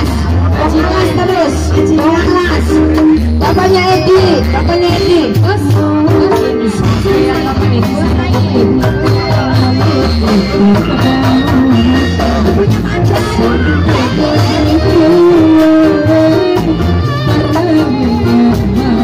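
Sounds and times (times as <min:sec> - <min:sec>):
steady drum beat: 0:00.0 - 0:19.0
sung folk melody: 0:00.0 - 0:19.0.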